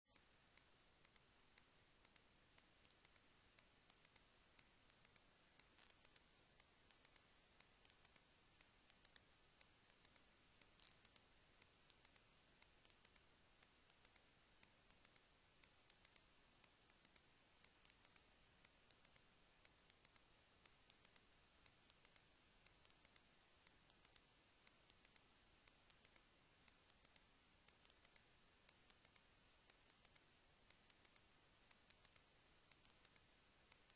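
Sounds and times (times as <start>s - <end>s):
faint clicks: 0.1s - 33.9s
faint hiss: 0.1s - 33.9s.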